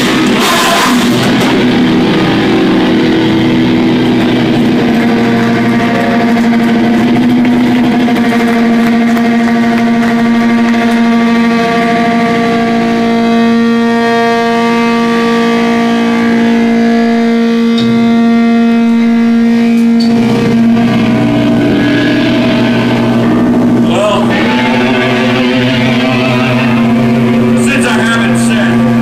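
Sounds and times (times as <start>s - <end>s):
drums: 0.0s - 14.1s, 18.9s - 29.0s
cymbal crash: 0.0s - 29.0s
guitar amplifier feedback howl: 0.0s - 29.0s.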